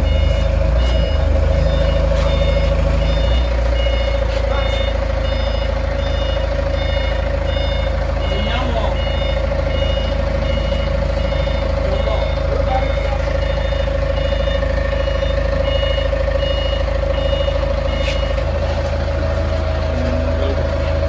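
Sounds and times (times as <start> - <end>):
engine hum: 0.0 - 21.0
reversing alarm beeping: 0.0 - 21.0.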